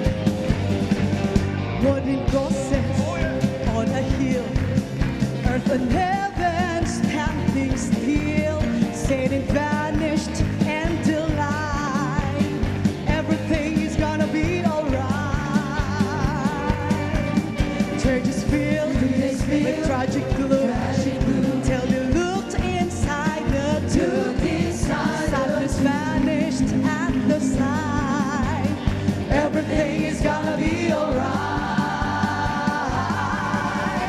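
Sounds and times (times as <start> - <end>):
band playing a steady beat: 0.0 - 34.0
person singing: 1.8 - 4.7, 5.4 - 34.0.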